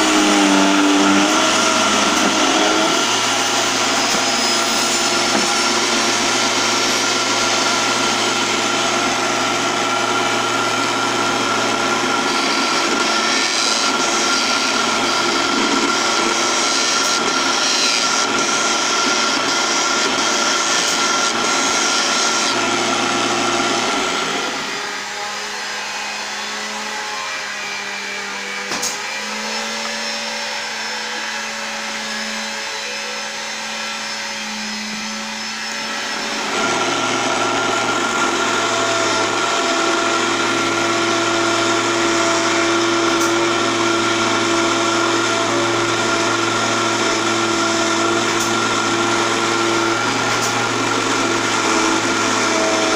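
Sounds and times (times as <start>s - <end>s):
lathe motor humming: 0.0s - 52.9s.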